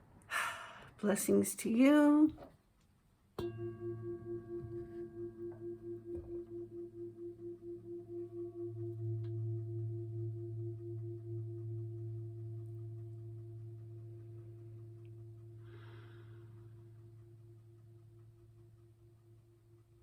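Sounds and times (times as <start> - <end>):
crystal singing bowls ringing: 3.4 - 19.6.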